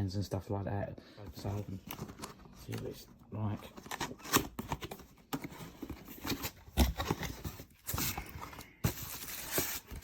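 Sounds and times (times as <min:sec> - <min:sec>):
cardboard rustling and scraping: 0:01.3 - 0:10.0.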